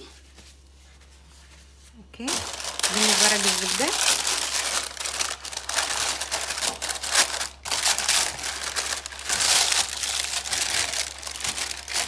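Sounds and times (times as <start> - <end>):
parchment paper crinkling: 2.2 - 12.0.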